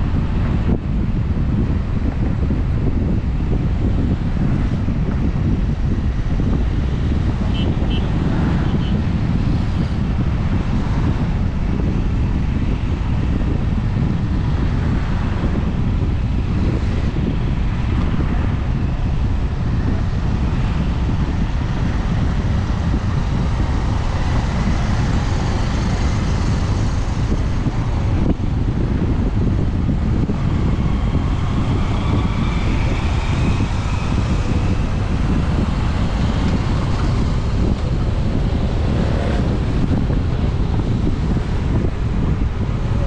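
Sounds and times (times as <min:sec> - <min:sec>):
road and traffic rumble: 0:00.0 - 0:43.0
wind buffeting microphone: 0:00.0 - 0:43.0.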